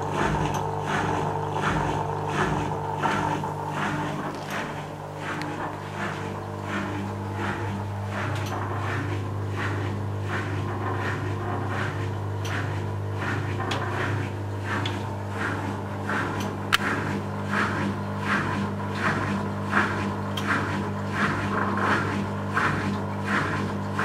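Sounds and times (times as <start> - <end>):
drain pump humming: 0.0 - 24.0.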